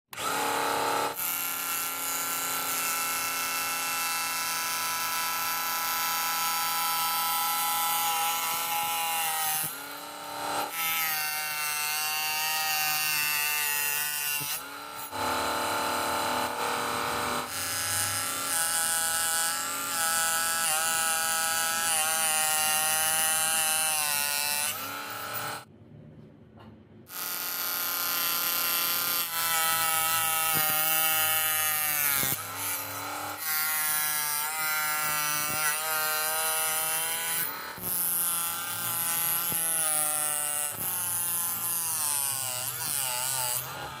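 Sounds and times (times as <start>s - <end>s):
table saw motor whining: 0.1s - 25.6s, 27.1s - 44.0s
saw blade cutting wood: 0.1s - 25.7s, 27.1s - 44.0s.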